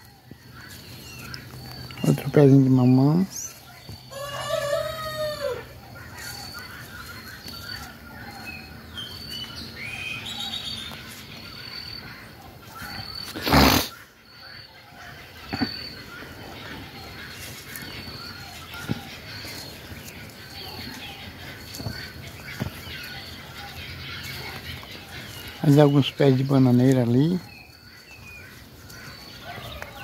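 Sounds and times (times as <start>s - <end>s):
scattered bird calls: 0.0s - 30.0s.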